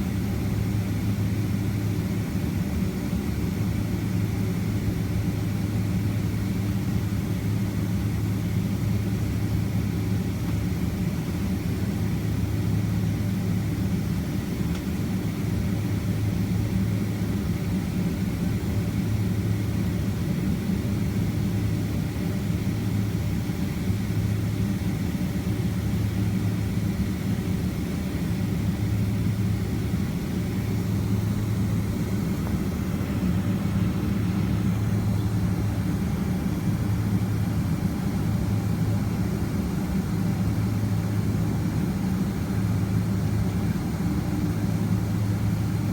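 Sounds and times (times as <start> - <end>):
airplane cabin engine drone: 0.0 - 45.9.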